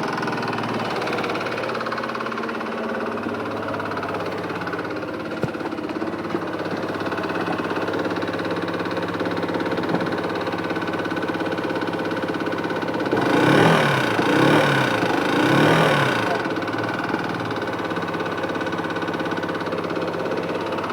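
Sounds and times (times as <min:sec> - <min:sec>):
scooter engine idling with ticking: 0:00.0 - 0:20.9
scooter engine revving: 0:00.0 - 0:20.9.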